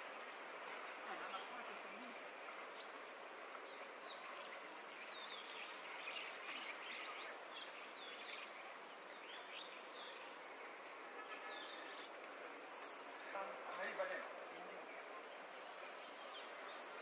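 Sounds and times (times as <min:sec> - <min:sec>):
faint outdoor hiss: 0:00.0 - 0:17.0
small birds chirping: 0:00.3 - 0:12.4, 0:13.2 - 0:17.0.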